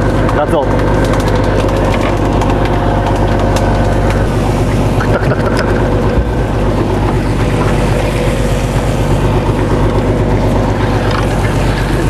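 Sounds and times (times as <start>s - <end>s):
boat engine droning: 0.0s - 12.0s
water rushing along hull: 0.0s - 12.0s.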